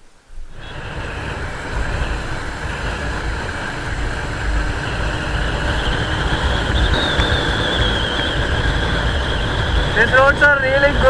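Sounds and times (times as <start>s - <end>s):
wind rush: 0.3s - 11.0s
motorcycle engine drone: 0.4s - 11.0s.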